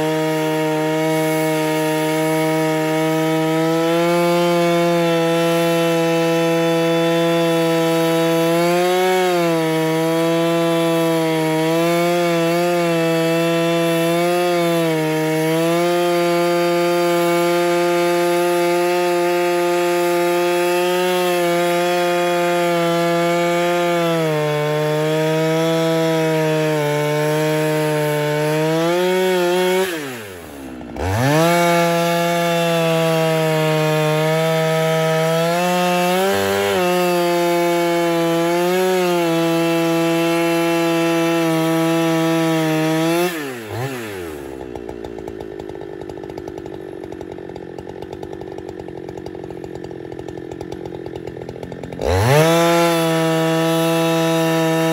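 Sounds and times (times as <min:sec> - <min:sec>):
chainsaw cutting log: 0:00.0 - 0:54.9.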